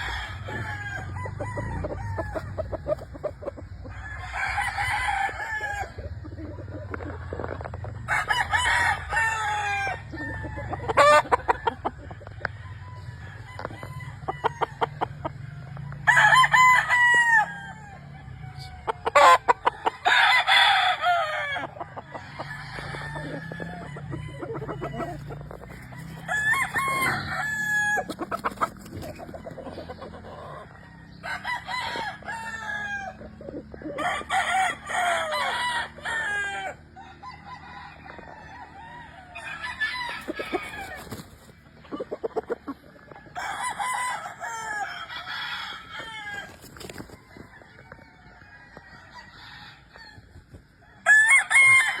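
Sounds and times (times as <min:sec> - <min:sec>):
chickens clucking: 0:00.0 - 0:52.0
roosters crowing: 0:00.0 - 0:52.0.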